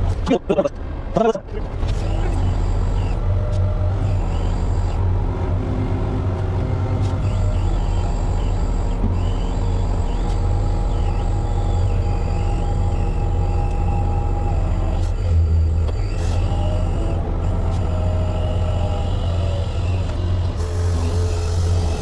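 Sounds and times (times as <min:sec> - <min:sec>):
diesel engine running under load: 0:00.0 - 0:22.0
steady whine: 0:00.0 - 0:22.0.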